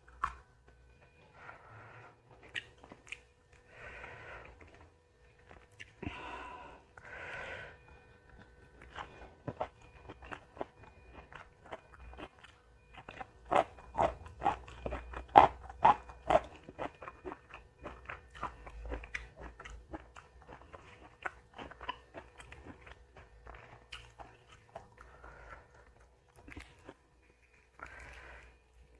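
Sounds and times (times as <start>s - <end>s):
person chewing crisp food: 0.0s - 28.9s.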